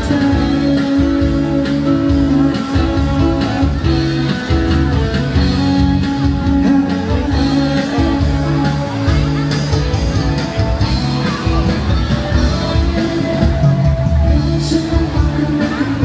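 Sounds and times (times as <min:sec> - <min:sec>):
guitar-led music with bass line: 0:00.0 - 0:16.0.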